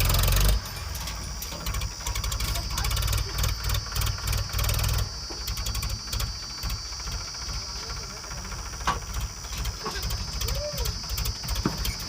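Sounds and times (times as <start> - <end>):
heavy diesel engine throbbing: 0.0 - 12.0.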